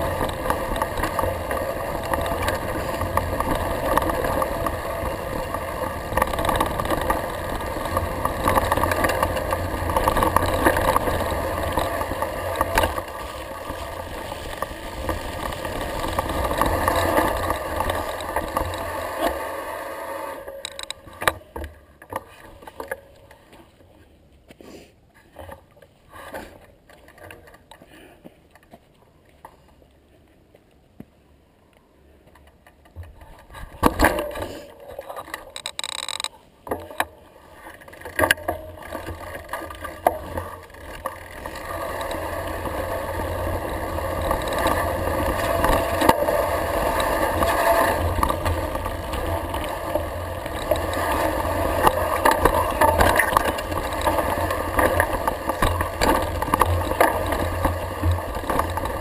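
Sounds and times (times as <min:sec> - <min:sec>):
bike rattles and clicks: 0:00.0 - 0:24.1, 0:25.2 - 0:30.0, 0:32.2 - 0:59.0.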